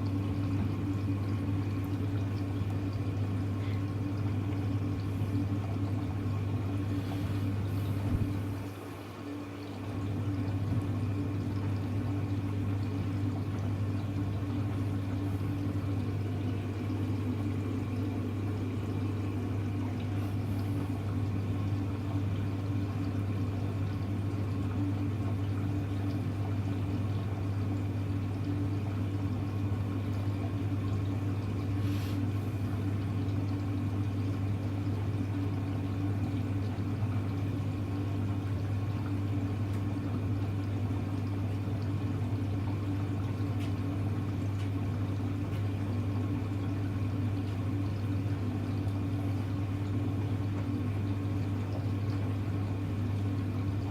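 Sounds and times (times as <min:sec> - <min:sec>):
washing machine electrical hum: 0:00.0 - 0:53.9.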